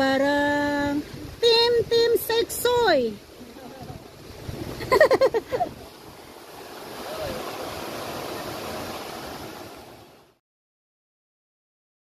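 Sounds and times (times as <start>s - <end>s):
stream rushing over rocks: 0.0s - 10.4s.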